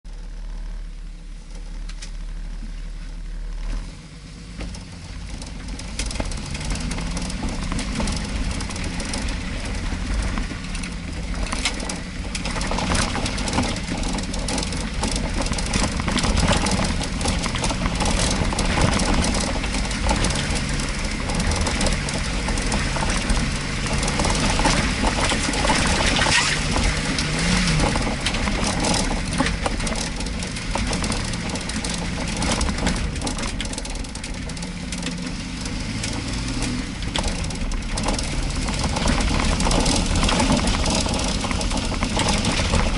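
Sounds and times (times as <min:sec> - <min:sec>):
car engine running slowly: 0:00.0 - 0:42.9
knocks and rattles: 0:04.6 - 0:42.9.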